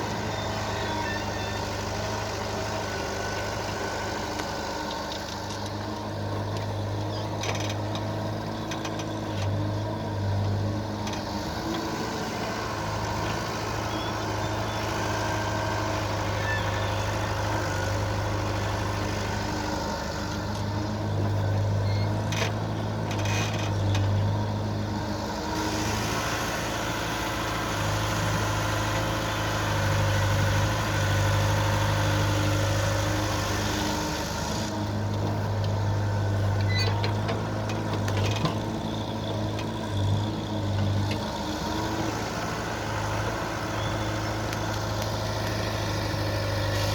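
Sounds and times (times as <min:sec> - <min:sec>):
diesel engines revving: 0:00.0 - 0:46.9.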